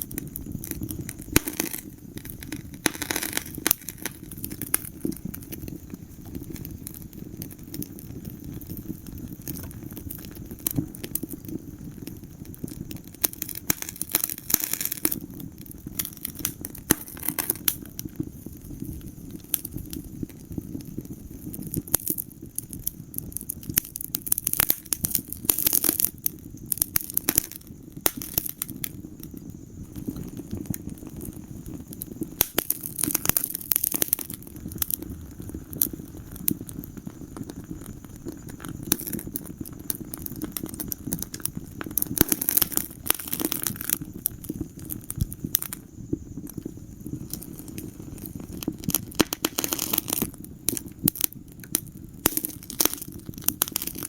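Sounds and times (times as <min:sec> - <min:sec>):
sharp pops and snaps: 0:00.0 - 0:54.0
wood fire crackling: 0:00.0 - 0:54.0.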